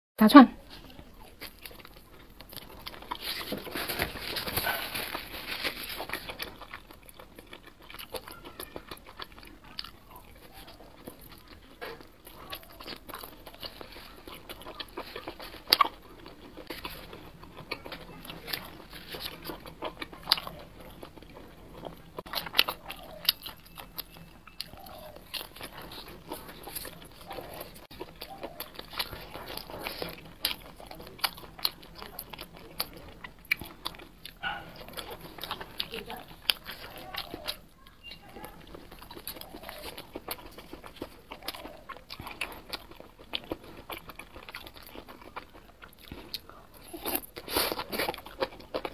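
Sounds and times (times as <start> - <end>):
biting and chewing crunches: 0.7 - 48.9.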